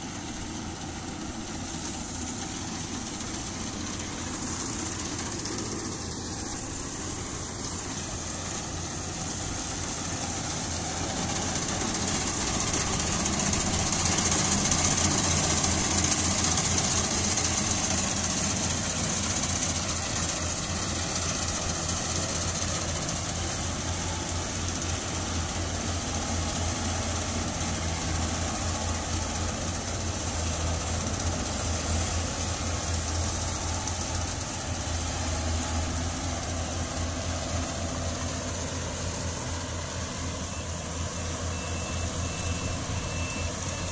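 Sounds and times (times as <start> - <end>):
combine harvester diesel engine: 0.0 - 43.9
steady high hiss: 0.0 - 43.9.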